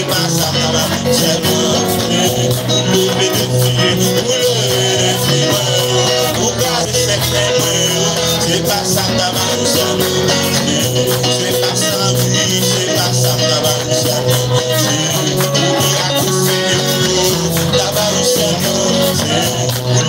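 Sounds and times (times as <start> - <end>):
live band playing upbeat music: 0.0 - 20.0
person singing: 0.0 - 20.0.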